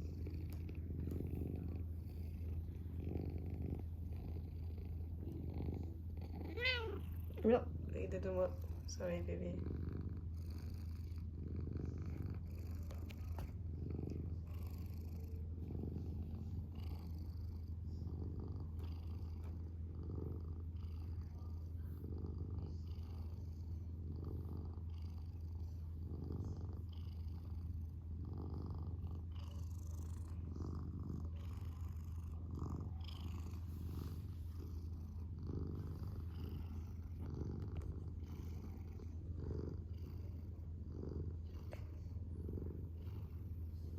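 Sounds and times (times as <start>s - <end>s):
cat purring: 0.0s - 43.9s.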